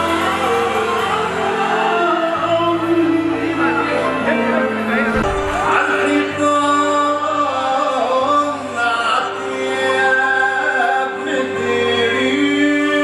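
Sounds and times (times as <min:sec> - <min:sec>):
band playing held notes: 0:00.0 - 0:11.8
man singing: 0:00.0 - 0:13.0.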